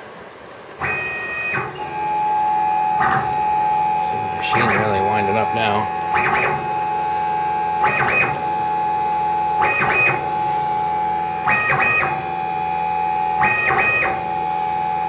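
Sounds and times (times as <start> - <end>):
stepper motor whine: 0.0 - 15.0
motor pitch sweeps: 0.8 - 15.0.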